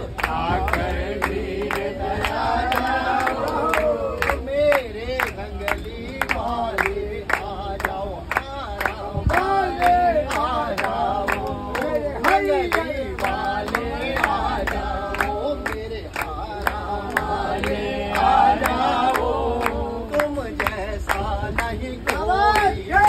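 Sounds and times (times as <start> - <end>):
hand-clapping in time: 0.0 - 23.0
men singing devotional song: 0.0 - 23.0.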